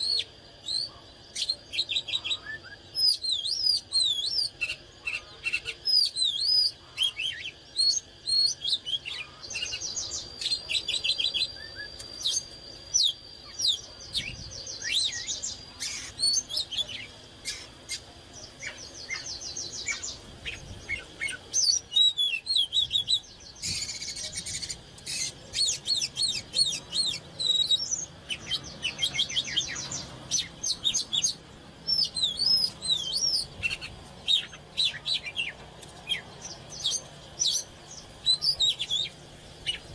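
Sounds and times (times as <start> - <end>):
bird singing whistles: 0.0 - 18.0, 18.6 - 39.9.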